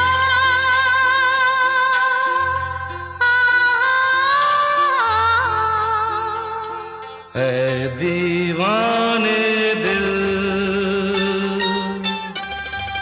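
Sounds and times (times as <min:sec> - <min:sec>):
instrumental accompaniment with bass: 0:00.0 - 0:13.0
person singing with vibrato: 0:00.0 - 0:13.0.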